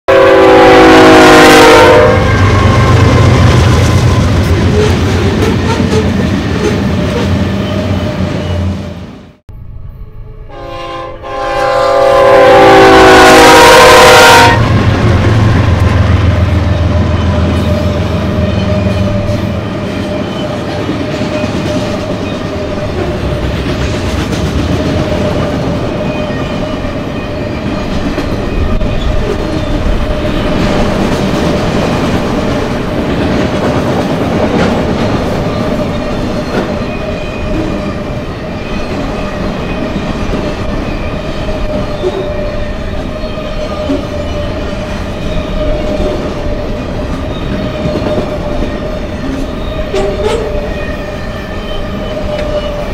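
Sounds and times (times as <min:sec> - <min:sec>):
steel wheels rumbling on rail: 0:00.1 - 0:52.9.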